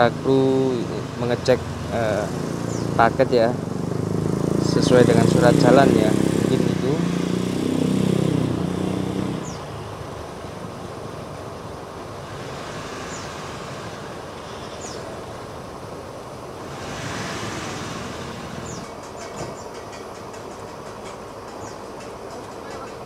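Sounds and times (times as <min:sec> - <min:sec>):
motorcycle passing: 0:00.0 - 0:19.7
passing vehicle: 0:00.0 - 0:19.7
engine and traffic noise: 0:00.0 - 0:23.0.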